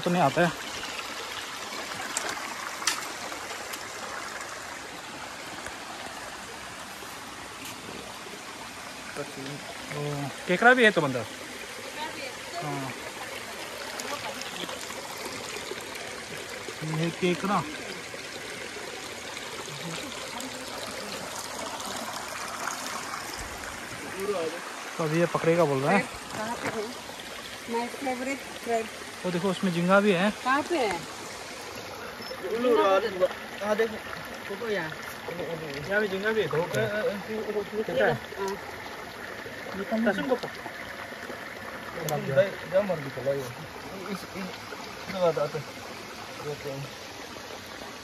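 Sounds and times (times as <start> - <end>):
stream rushing over its bed: 0.0 - 48.0.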